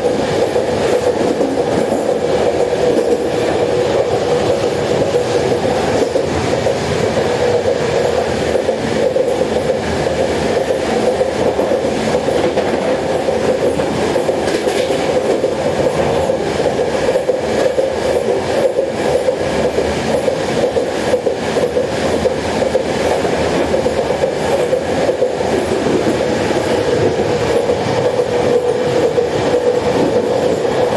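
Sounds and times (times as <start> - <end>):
train carriage rumble and rattle: 0.0 - 30.9.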